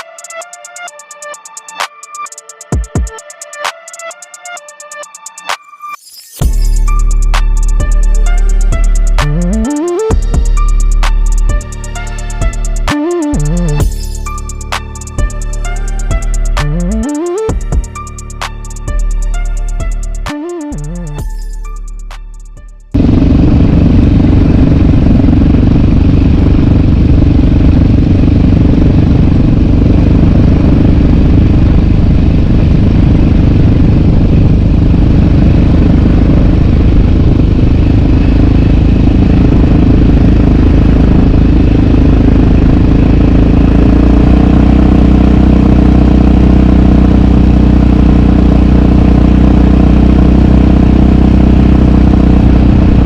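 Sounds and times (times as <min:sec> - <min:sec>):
atv engine running: 0:06.4 - 0:20.2, 0:22.9 - 0:53.0.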